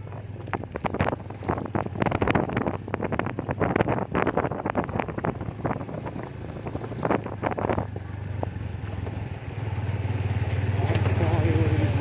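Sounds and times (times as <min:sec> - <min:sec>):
wind buffeting microphone: 0:00.0 - 0:09.6
motorcycle engine running: 0:00.0 - 0:12.0.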